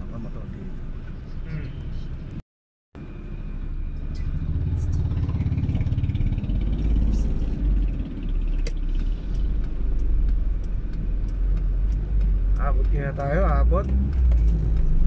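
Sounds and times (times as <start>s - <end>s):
car engine rumble: 0.0s - 2.4s, 3.0s - 15.0s
road noise: 0.0s - 2.4s, 3.0s - 15.0s.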